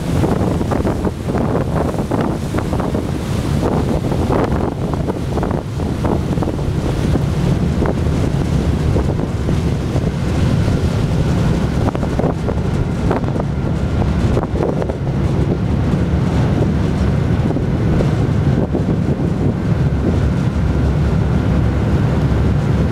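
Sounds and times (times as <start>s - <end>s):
low rumble of ship and water: 0.0s - 22.9s
wind buffeting microphone: 0.0s - 22.9s.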